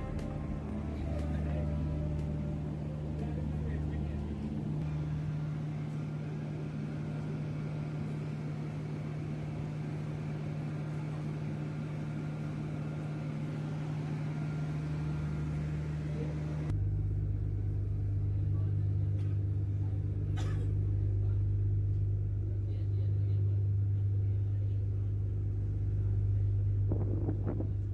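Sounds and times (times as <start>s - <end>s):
ferry engines droning: 0.0s - 27.9s.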